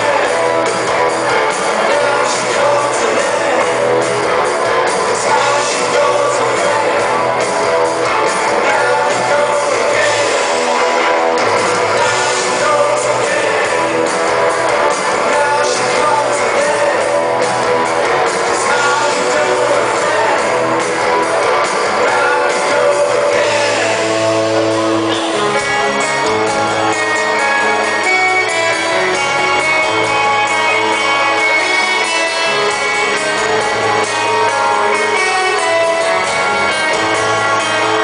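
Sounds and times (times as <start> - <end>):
electric guitars strumming: 0.0 - 38.0
live rock band playing: 0.0 - 38.0.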